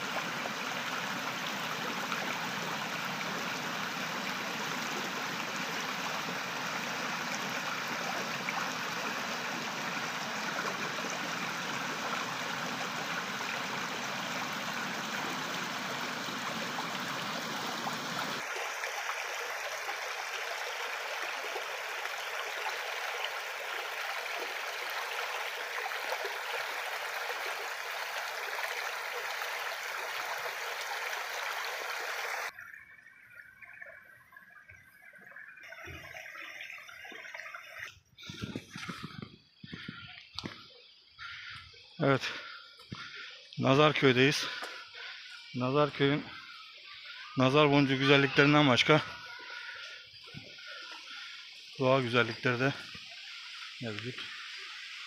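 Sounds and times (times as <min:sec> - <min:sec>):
creek water over pebbles: 0:00.0 - 0:55.0.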